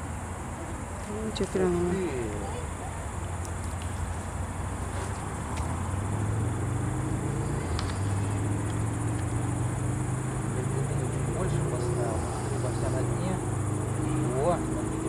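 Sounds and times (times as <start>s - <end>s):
motor engine humming: 1.2s - 15.0s.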